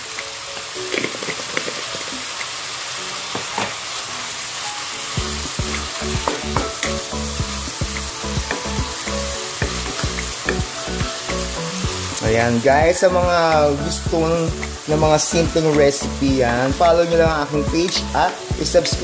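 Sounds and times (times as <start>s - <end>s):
vegetables sizzling in wok: 0.0s - 19.0s.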